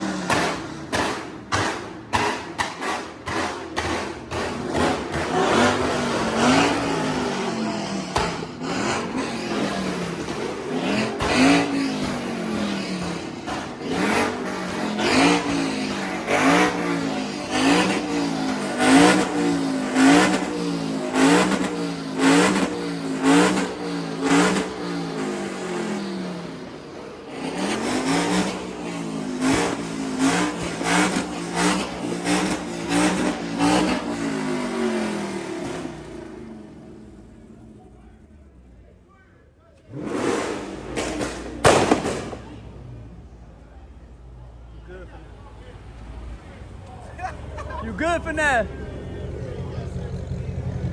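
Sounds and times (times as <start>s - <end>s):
exhaust cracks: 0.0s - 38.4s, 39.8s - 43.4s, 45.6s - 50.9s
car engines revving: 0.0s - 50.9s.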